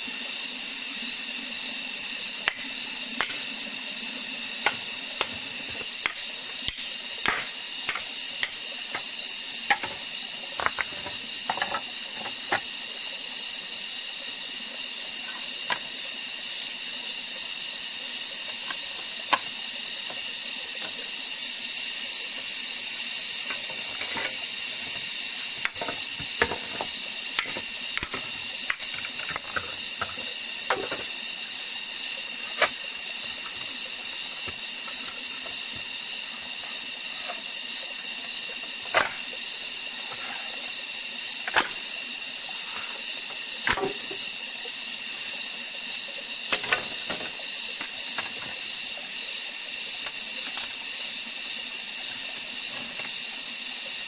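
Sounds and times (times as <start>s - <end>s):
insect chorus droning: 0.0s - 54.0s.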